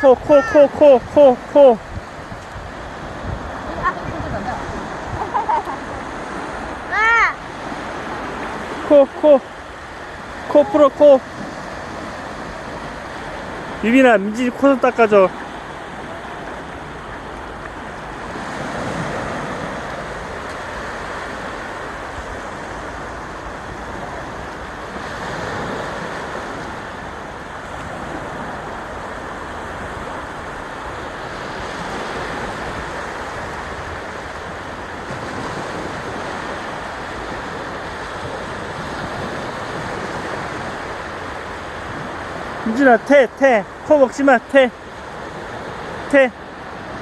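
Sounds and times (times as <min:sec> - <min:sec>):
wind on microphone: 0:00.0 - 0:14.6, 0:15.2 - 0:42.8
sea waves breaking on shore: 0:00.0 - 0:47.0.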